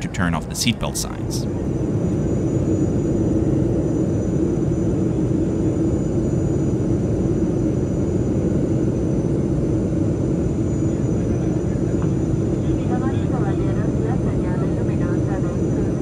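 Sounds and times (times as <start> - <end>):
jet engine drone: 0.0 - 16.0.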